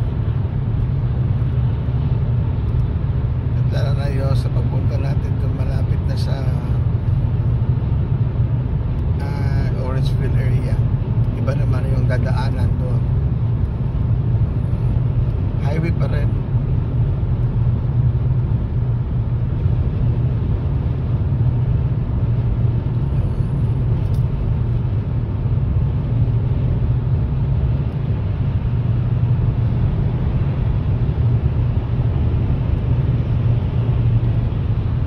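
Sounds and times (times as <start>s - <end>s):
car road noise rumble: 0.0s - 35.0s.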